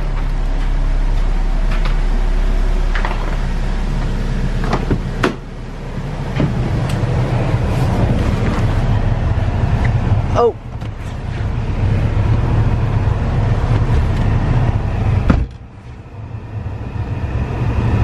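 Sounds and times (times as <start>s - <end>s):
car engine rumble inside cabin: 0.0s - 18.0s.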